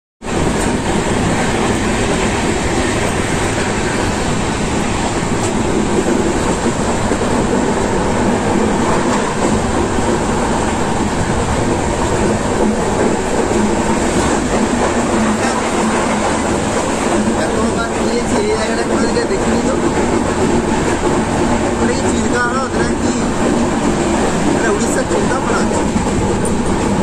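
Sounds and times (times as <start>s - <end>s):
train wheels rumbling on track: 0.2s - 27.0s.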